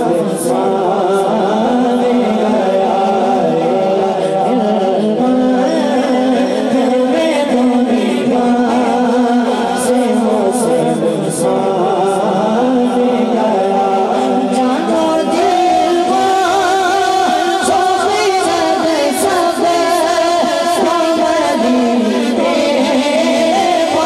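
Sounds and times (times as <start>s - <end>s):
boy singing into microphone: 0.0s - 24.0s.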